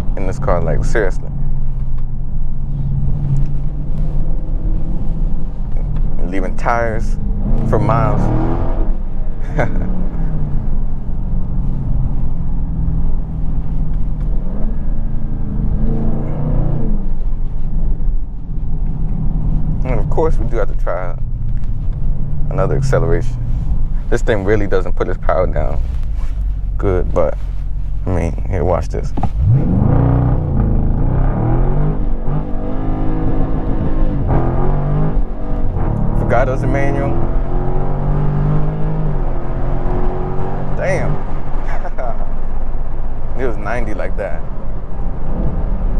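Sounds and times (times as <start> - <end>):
car engine revving while driving: 0.0 - 45.9.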